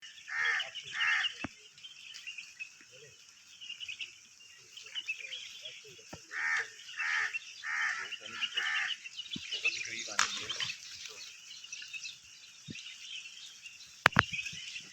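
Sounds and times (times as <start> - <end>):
faint high twittering chirps: 0.0 - 14.9
loud pitched bird calls: 0.0 - 14.9.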